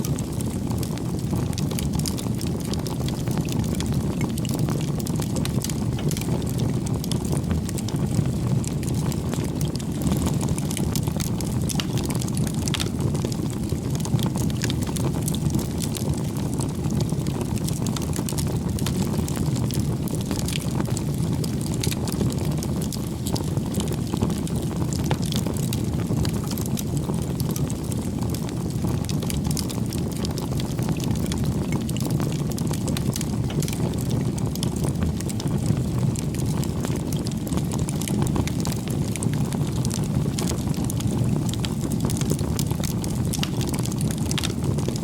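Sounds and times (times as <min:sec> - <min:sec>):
bonfire crackling: 0:00.0 - 0:45.0.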